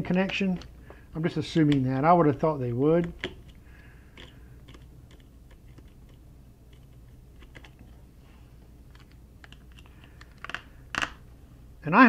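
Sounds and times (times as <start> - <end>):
fingers clicking and tapping parts: 0.0 - 8.0, 8.9 - 11.2
steady low hum: 0.0 - 12.0.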